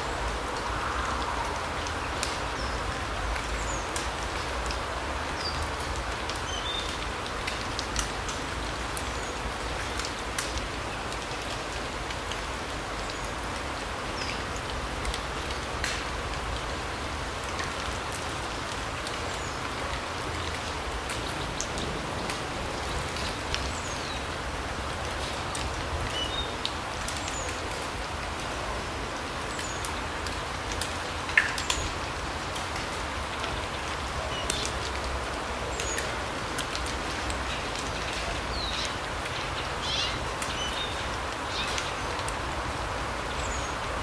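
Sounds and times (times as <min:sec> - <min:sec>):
steady forest hiss: 0:00.0 - 0:44.0.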